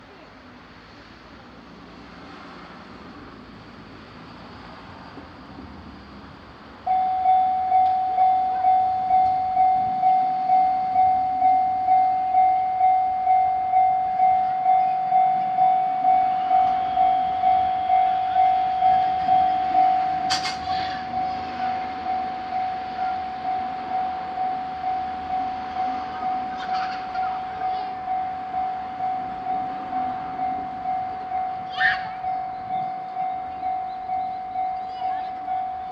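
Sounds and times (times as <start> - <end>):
railroad crossing bell ringing: 6.2 - 35.9.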